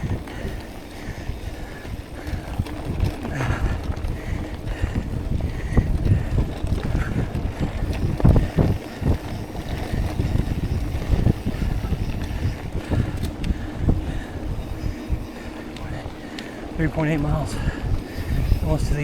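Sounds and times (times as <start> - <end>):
bike tyres rumbling on dirt: 0.0 - 19.0
wind buffeting microphone: 0.0 - 19.0.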